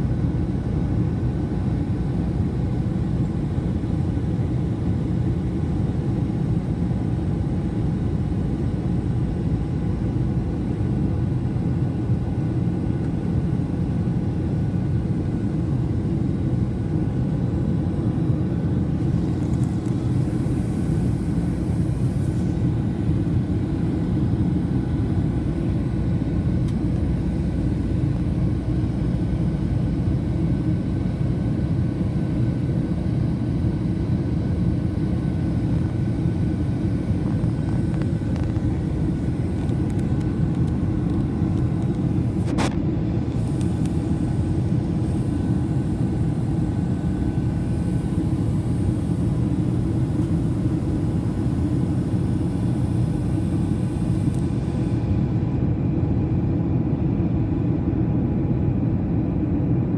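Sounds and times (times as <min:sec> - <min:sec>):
faint steady whine: 0:00.0 - 0:59.9
jet airliner cabin rumble: 0:00.0 - 0:59.9.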